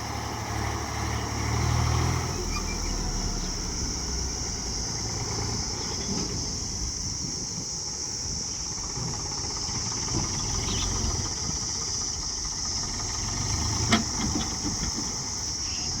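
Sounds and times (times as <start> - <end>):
engine idling: 0.0 - 16.0
high-pitched hiss: 2.4 - 16.0.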